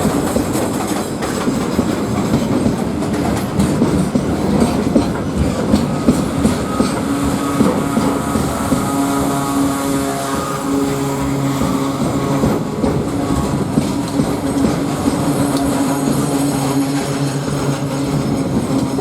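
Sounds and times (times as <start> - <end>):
train wheels clattering over rails: 0.0 - 19.0.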